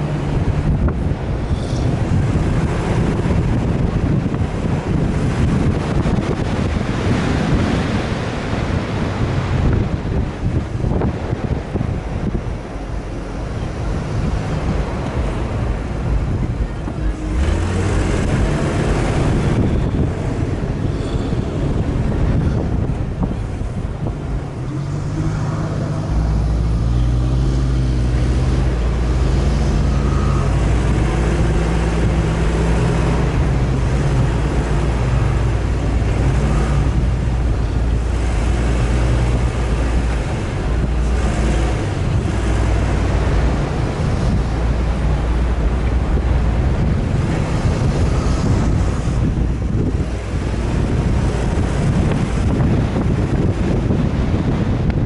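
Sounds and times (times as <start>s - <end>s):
deep rumble: 0.0s - 55.0s
off-road vehicle engine: 0.0s - 55.0s.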